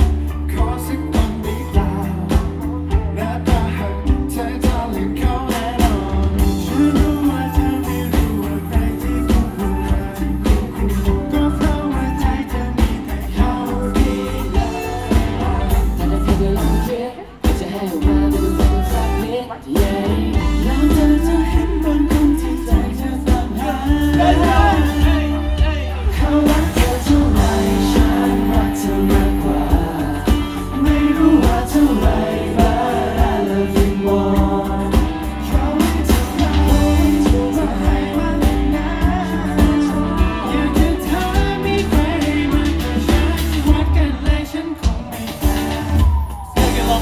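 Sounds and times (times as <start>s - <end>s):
drums: 0.0s - 47.0s
electric guitar: 0.0s - 47.0s
heavy bass: 0.0s - 47.0s
male vocal group singing: 0.0s - 47.0s.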